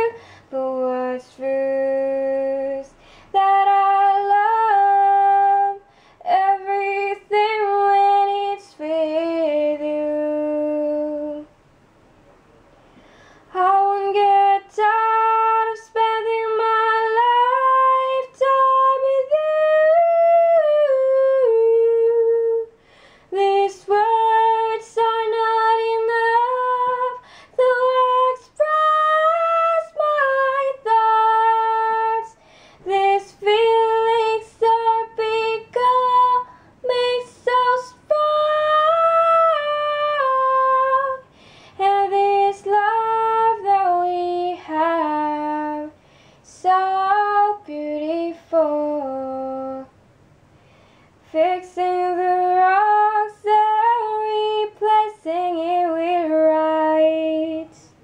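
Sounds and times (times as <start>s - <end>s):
woman singing unaccompanied: 0.0s - 11.6s, 13.5s - 50.0s, 51.2s - 58.0s.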